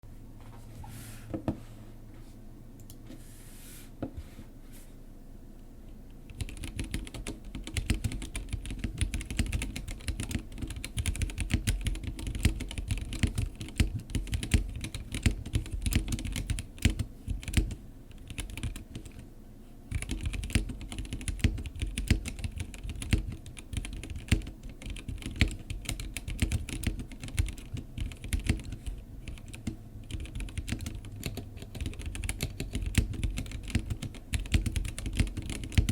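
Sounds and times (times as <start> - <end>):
mechanical keyboard typing: 6.3 - 19.2, 19.9 - 35.9.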